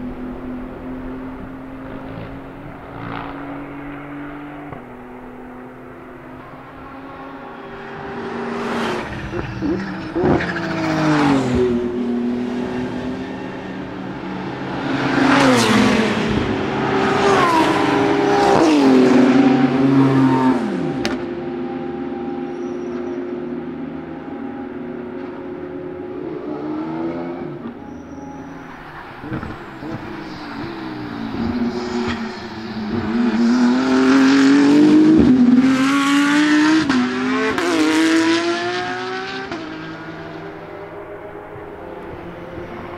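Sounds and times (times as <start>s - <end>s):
racing car engine downshifting: 0.0s - 42.9s.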